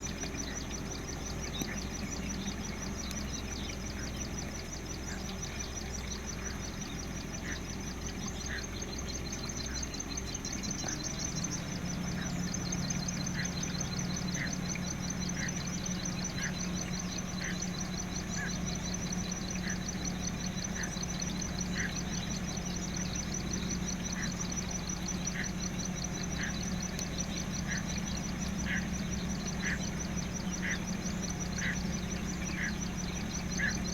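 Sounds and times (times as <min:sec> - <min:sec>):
bird warning call: 0:00.0 - 0:33.9.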